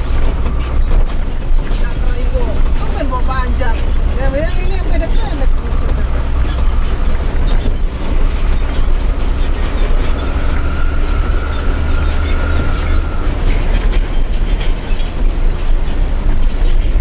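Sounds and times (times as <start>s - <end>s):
truck diesel engine drone: 0.0s - 17.0s.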